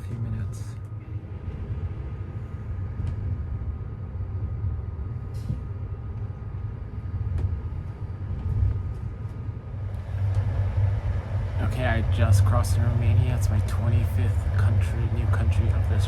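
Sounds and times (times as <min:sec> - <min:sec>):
faint whine: 0:00.0 - 0:16.0
train rumbling: 0:00.0 - 0:16.0.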